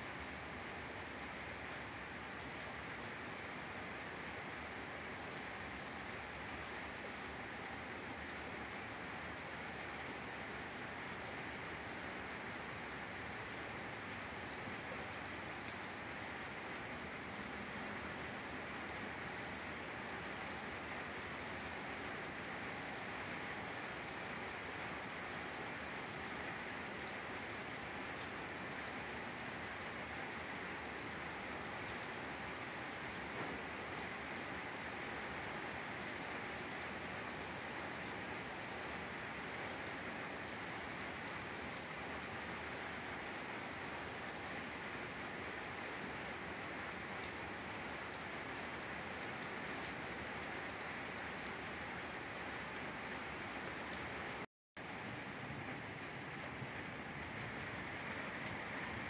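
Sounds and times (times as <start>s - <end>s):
steady rain on grass: 0.0s - 59.0s.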